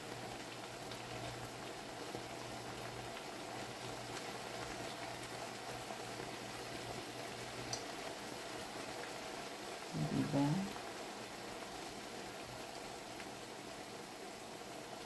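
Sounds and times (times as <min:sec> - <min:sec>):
food bubbling and sizzling in a wok: 0:00.0 - 0:15.0.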